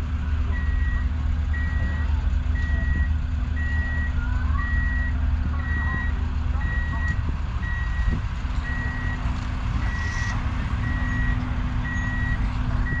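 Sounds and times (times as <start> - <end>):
engine rumbling: 0.0 - 13.0
reversing alarm beeping: 0.5 - 9.2, 9.8 - 13.0.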